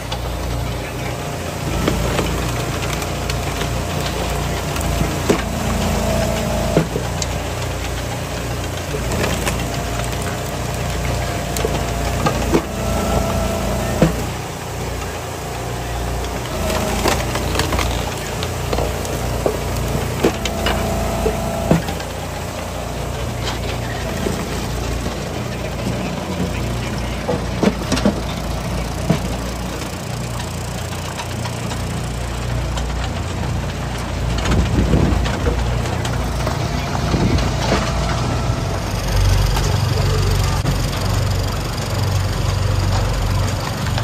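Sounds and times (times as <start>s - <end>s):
logs cracking and splitting: 0.0s - 44.0s
wood splitter engine hum: 0.0s - 44.0s.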